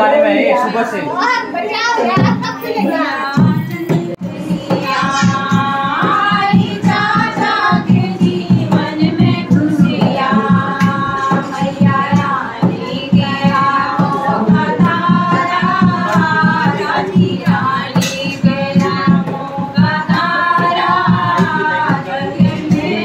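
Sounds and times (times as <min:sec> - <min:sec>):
women singing a folk song: 0:02.0 - 0:23.0
hand drum beat: 0:03.3 - 0:23.0.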